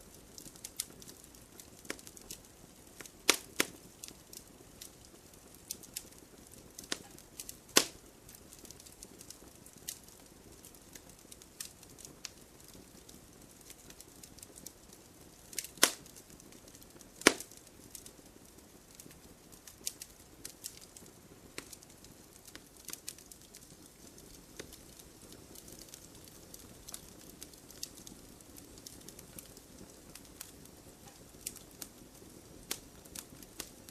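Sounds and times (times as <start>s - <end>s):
campfire snapping and popping: 0.0s - 33.9s
low fire hiss: 0.0s - 33.9s.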